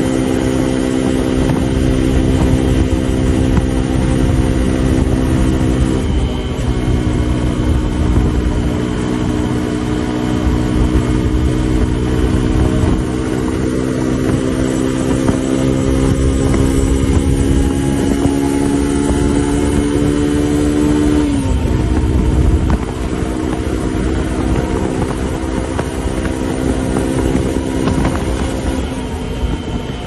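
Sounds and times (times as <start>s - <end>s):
motorcycle engine at high revs: 0.0s - 30.0s
road noise: 0.0s - 30.0s
wind noise: 0.0s - 30.0s.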